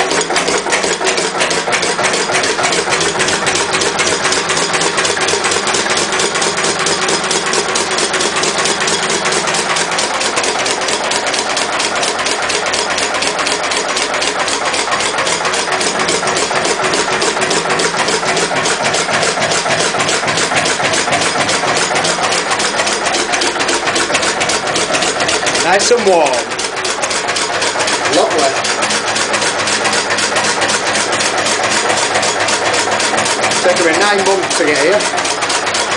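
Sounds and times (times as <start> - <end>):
diesel engine knocking: 0.0 - 35.9.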